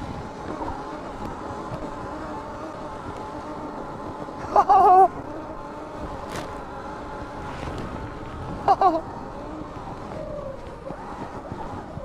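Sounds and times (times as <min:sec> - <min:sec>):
electric motor whine: 0:00.0 - 0:12.0
snow and wind noise: 0:00.0 - 0:12.0.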